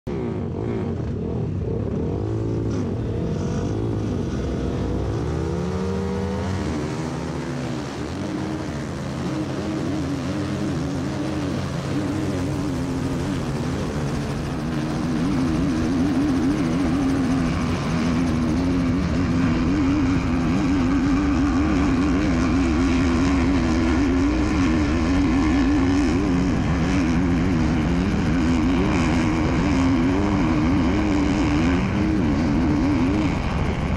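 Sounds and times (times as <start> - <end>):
dirt bike engines revving: 0.1 - 33.9
drone propeller hum: 0.1 - 33.9.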